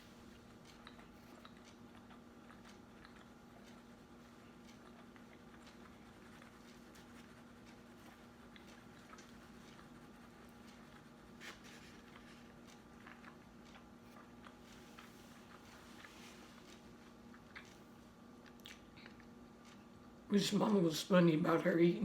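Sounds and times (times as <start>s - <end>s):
light chewing: 0.0s - 20.3s
low steady hum: 0.0s - 22.0s.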